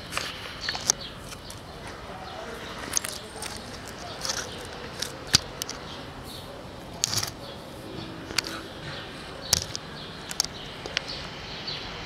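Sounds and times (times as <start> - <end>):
cat scratching on concrete: 0.0 - 11.4
outdoor background noise: 0.0 - 12.0.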